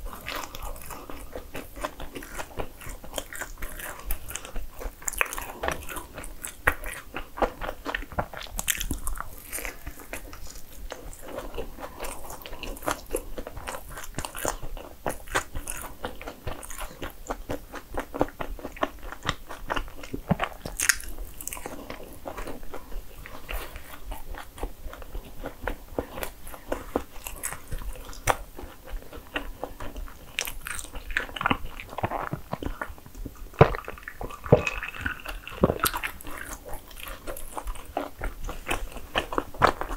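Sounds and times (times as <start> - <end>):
biting and chewing: 0.0 - 39.9.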